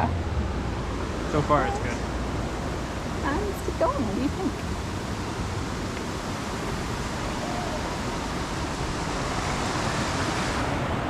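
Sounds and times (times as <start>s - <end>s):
stream water flowing over rocks: 0.0s - 11.0s.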